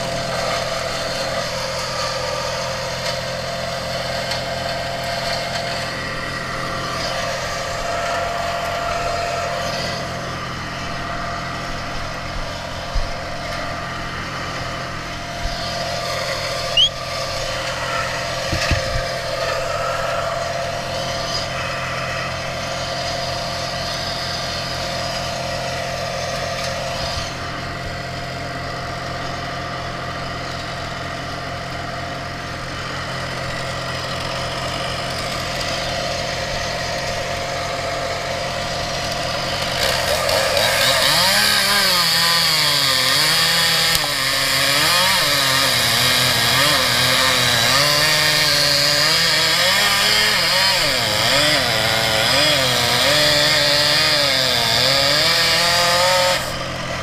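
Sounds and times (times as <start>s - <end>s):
chainsaw cutting wood: 0.0s - 57.0s
steady engine drone: 0.0s - 57.0s.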